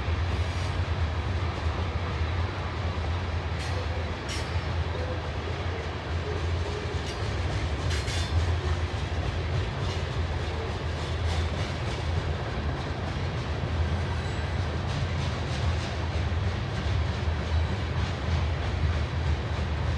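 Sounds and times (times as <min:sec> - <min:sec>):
train cars rumbling past: 0:00.0 - 0:19.9.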